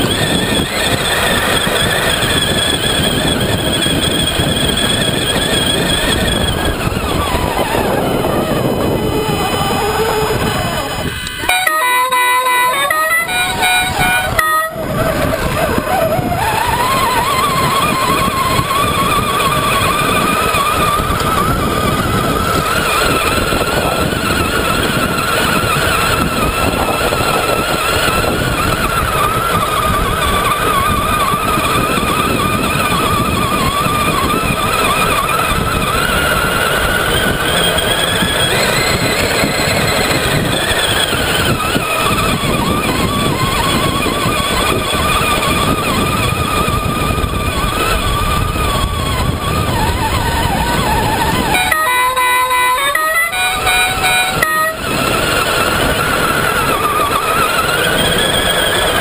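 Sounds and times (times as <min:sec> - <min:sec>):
low rumbling: 0:00.0 - 0:59.0
rc truck motor whining: 0:00.0 - 0:59.0.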